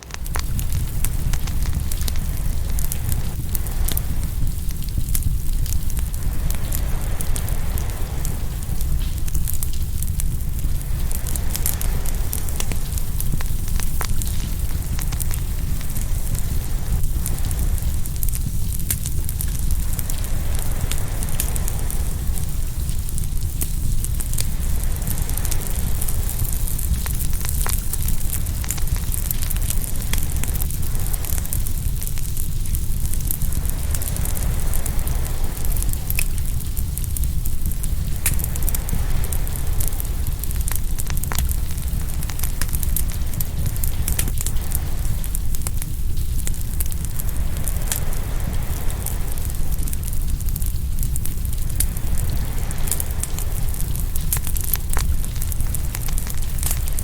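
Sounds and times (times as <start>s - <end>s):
fire low rumble: 0.0s - 57.0s
wood fire crackling and popping: 0.0s - 57.0s.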